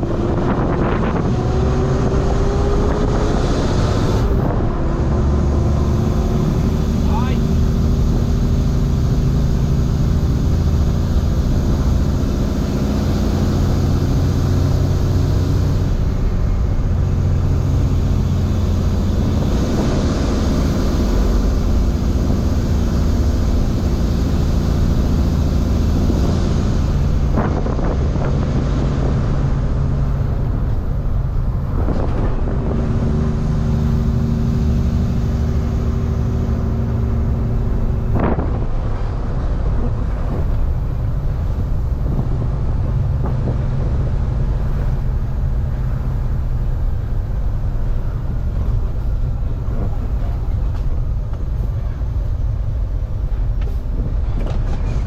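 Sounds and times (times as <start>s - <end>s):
road noise: 0.0s - 55.0s
truck diesel engine running: 0.0s - 55.0s.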